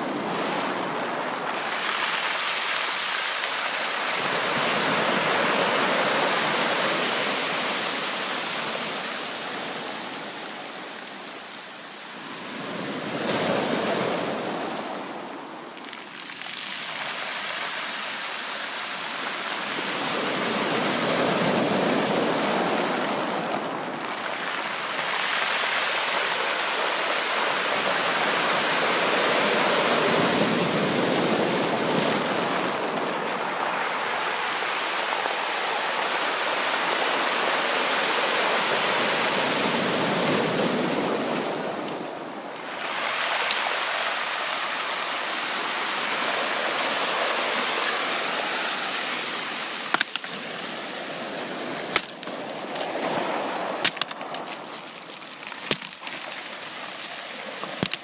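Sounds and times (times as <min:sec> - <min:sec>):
sea waves washing on beach: 0:00.0 - 0:58.0.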